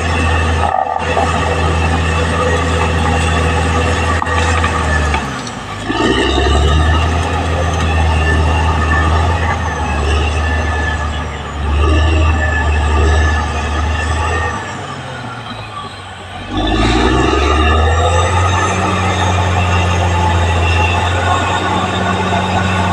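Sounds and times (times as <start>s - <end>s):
bulldozer diesel engine running: 0.0s - 22.9s.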